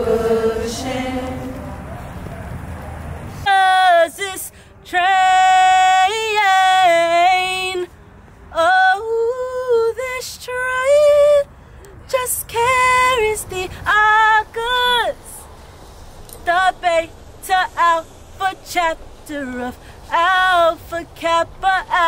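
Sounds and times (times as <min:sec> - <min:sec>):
woman singing unaccompanied: 0:00.0 - 0:01.6, 0:03.5 - 0:07.9, 0:08.5 - 0:15.4, 0:16.4 - 0:22.0.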